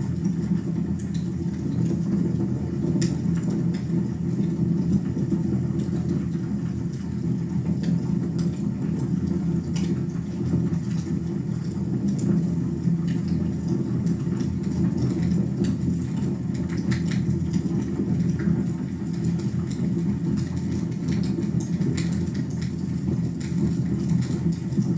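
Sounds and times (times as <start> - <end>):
wood fire roaring: 0.0 - 24.9.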